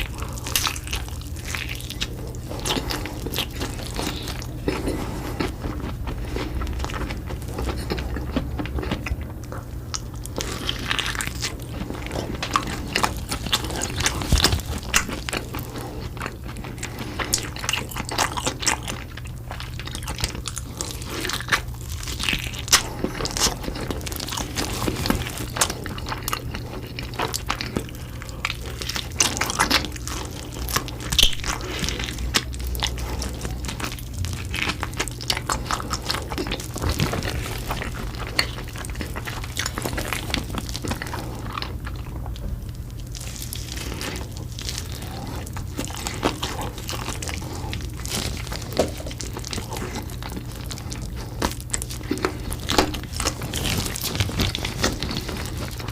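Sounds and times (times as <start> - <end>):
crunchy chewing: 0.0 - 55.9
steady low hum: 0.0 - 55.9.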